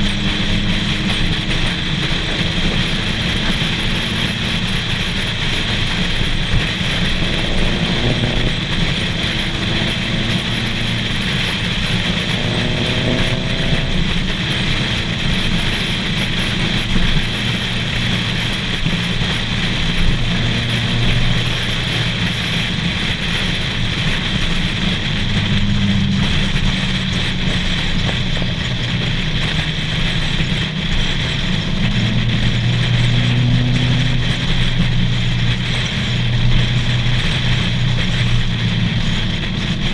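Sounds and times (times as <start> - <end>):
car engine hum: 0.0 - 39.9
wind noise on microphone: 0.0 - 39.9.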